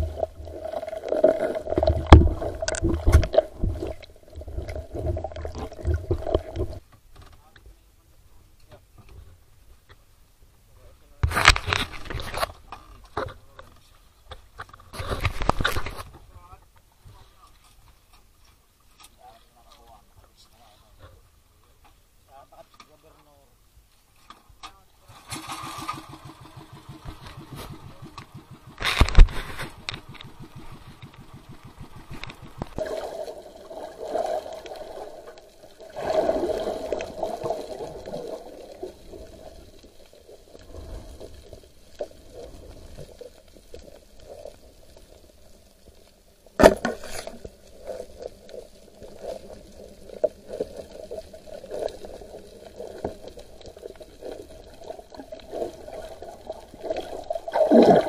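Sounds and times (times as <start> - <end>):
muffled underwater water noise: 0.0 - 58.0.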